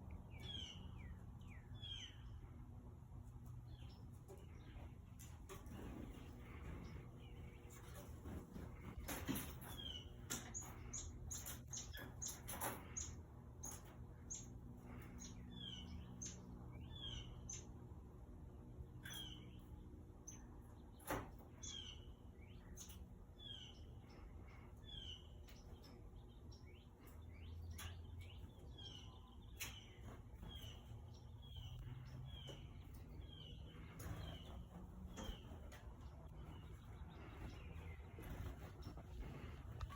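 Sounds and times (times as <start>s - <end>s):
small bird chirping: 0.1s - 2.7s, 8.8s - 17.8s, 18.9s - 39.9s.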